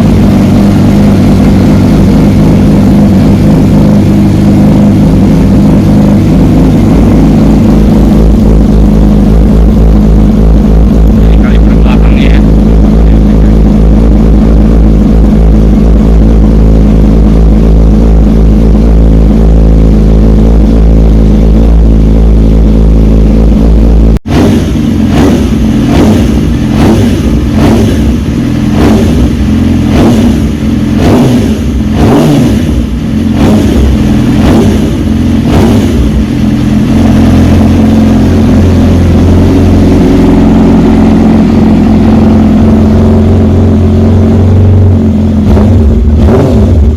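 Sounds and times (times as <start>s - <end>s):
motorcycle engine revving: 0.0s - 46.9s
motorcycle engine running: 0.0s - 46.9s.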